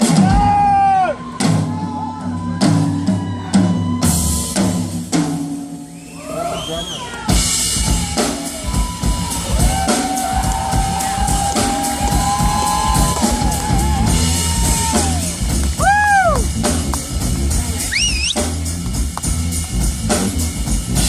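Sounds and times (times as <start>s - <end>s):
drum kit beat: 0.0s - 6.0s, 7.2s - 21.0s
live band playing: 0.0s - 21.0s.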